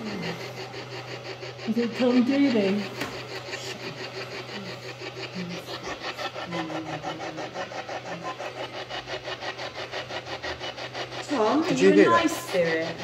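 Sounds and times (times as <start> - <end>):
rapid pulsing radio static: 0.0 - 13.0.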